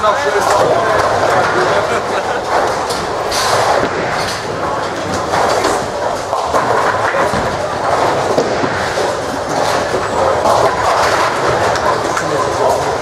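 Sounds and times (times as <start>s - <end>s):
bowling balls rolling: 0.0s - 13.0s
bowling pins clattering: 0.0s - 13.0s.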